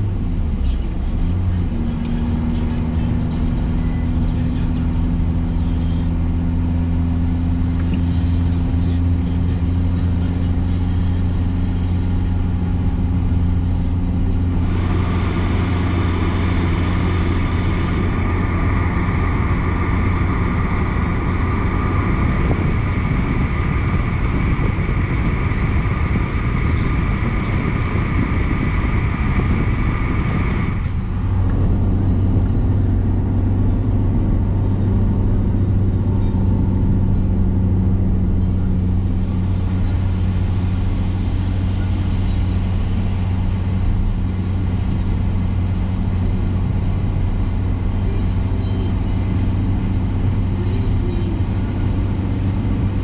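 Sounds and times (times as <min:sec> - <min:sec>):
car cabin engine and tyre hum: 0:00.0 - 0:53.0.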